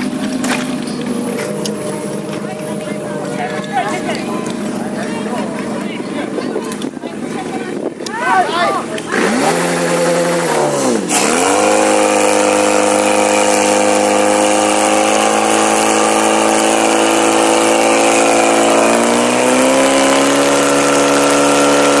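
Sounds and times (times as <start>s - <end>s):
pump engine running at high revs: 0.0s - 22.0s.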